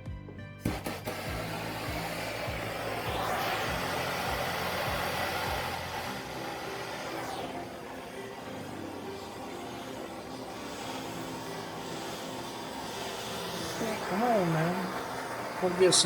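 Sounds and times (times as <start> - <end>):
gas torch flame hissing: 0.6 - 16.0.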